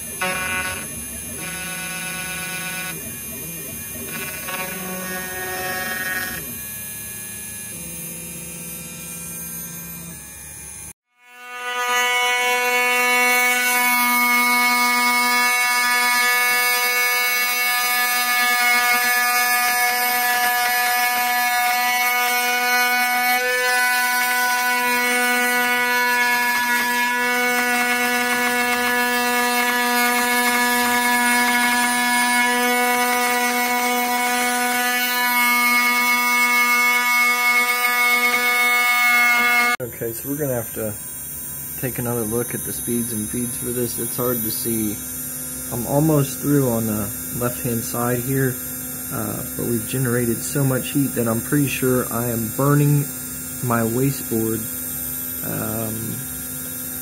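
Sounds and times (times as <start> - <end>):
spindle buzzing whine: 0.0 - 57.0.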